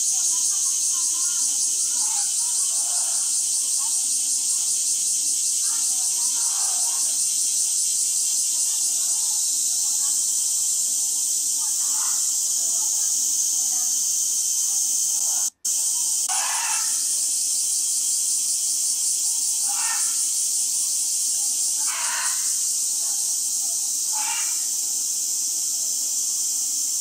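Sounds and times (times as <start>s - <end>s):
steady high-pitched hiss: 0.0s - 27.0s.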